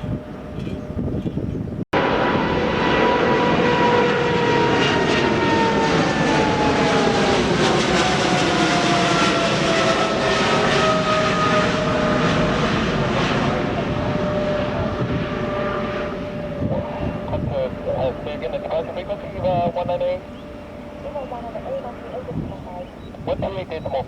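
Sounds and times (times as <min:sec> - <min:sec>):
jet airliner engines passing: 0:00.0 - 0:24.0.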